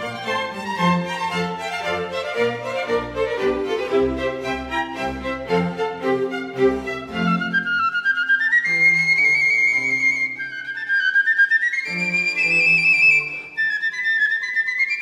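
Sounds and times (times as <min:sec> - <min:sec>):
instrumental music high melody: 0:00.0 - 0:15.0.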